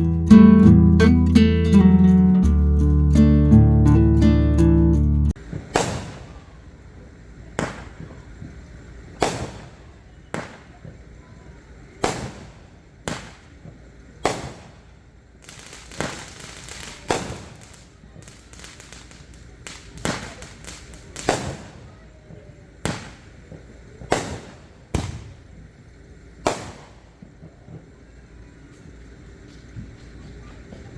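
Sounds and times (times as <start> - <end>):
fireworks banging: 5.4 - 30.9
fireworks crackling: 5.4 - 30.9.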